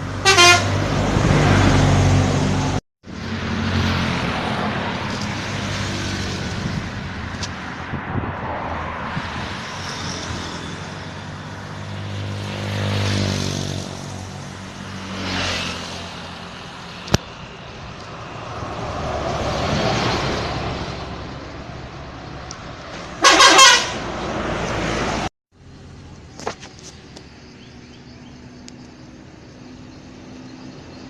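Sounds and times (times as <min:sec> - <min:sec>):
vehicles passing by: 0:00.0 - 0:31.0.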